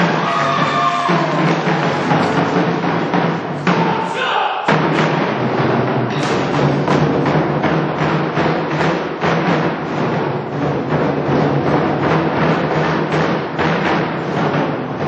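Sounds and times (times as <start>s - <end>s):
drum ensemble playing: 0.0s - 15.0s.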